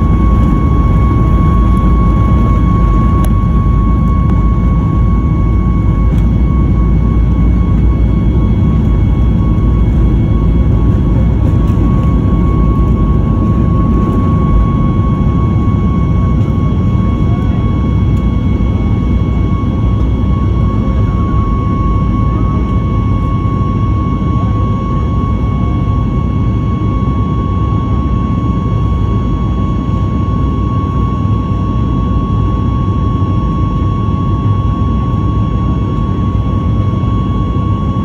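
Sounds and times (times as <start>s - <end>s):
high engine whine: 0.0s - 38.0s
jet engine rumble from cabin: 0.0s - 38.0s.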